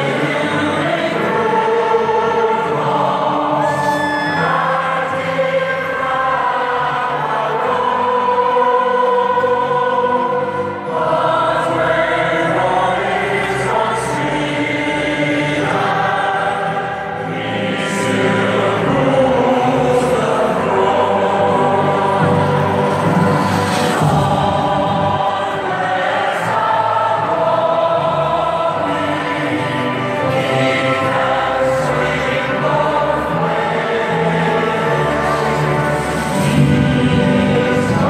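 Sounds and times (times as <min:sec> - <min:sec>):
choir singing over a pa system: 0:00.0 - 0:38.0.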